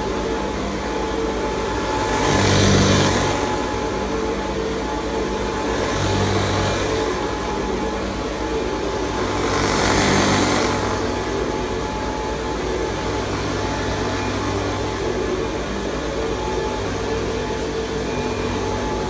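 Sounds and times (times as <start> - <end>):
upright vacuum cleaner humming: 0.0 - 19.0.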